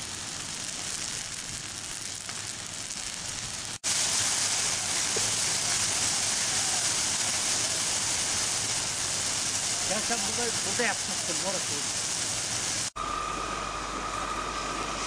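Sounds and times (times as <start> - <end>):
forest fire flames hissing: 0.0 - 15.0.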